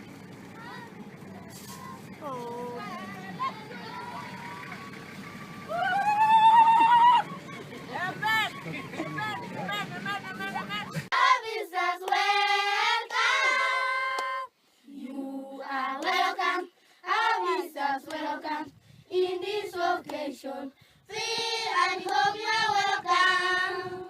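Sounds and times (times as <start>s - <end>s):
group singing with children: 1.7s - 5.7s, 8.2s - 24.0s.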